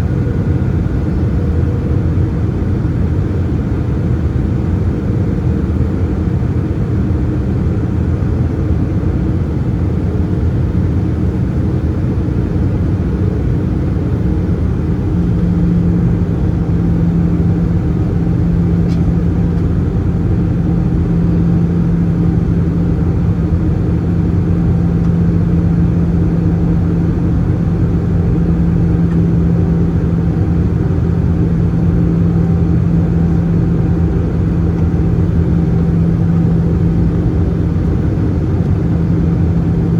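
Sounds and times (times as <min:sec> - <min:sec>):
airliner cabin noise: 0:00.0 - 0:39.9
low engine hum: 0:00.0 - 0:39.9.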